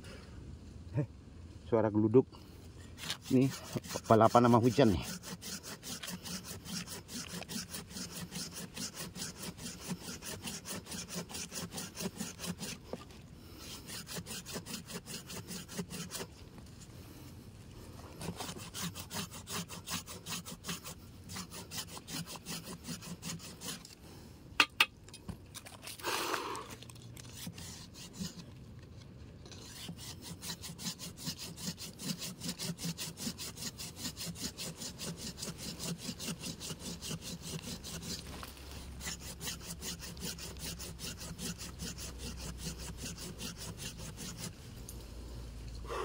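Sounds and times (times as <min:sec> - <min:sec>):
hand saw cutting wood: 0:03.0 - 0:16.4, 0:18.0 - 0:24.0, 0:25.6 - 0:28.5, 0:29.5 - 0:44.9.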